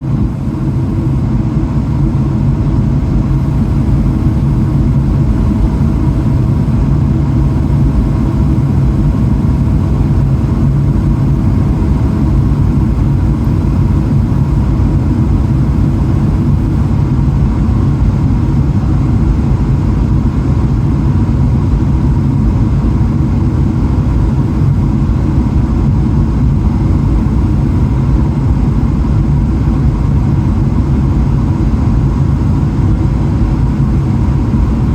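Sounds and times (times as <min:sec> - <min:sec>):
airplane cabin low roar: 0:00.0 - 0:34.9
faint steady hum: 0:00.0 - 0:34.9.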